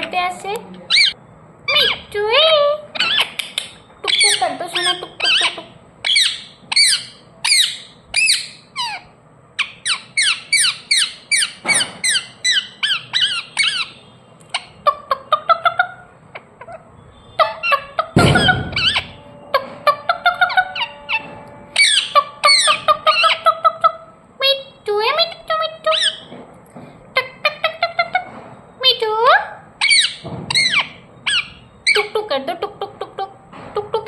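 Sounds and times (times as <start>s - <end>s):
parrot squawking chirps: 0.9s - 26.3s, 29.5s - 32.2s.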